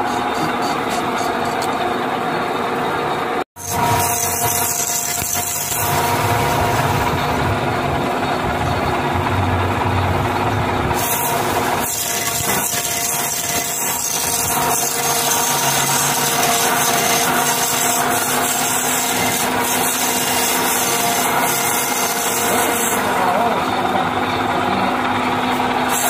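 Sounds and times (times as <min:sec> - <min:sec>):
lathe humming: 0:00.0 - 0:26.0.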